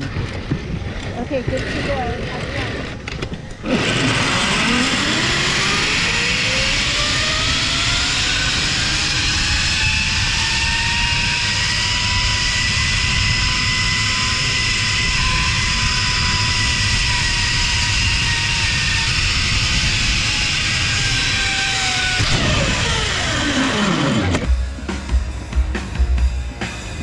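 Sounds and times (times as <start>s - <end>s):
pulley wheels whining on cable: 0.0s - 24.5s
wind rushing over microphone: 0.0s - 24.5s.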